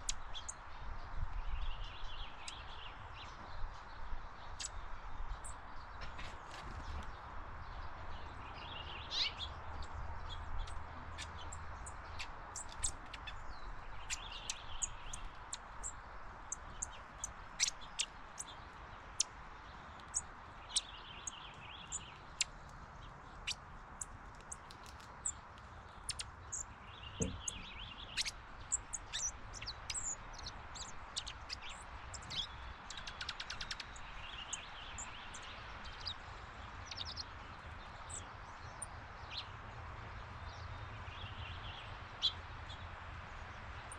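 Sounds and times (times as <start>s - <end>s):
birds chirping: 0.0s - 39.7s.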